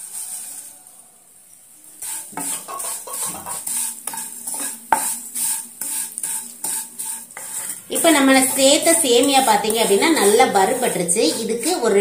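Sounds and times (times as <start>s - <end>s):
spatula scraping a pan: 0.0s - 0.8s, 1.9s - 12.0s.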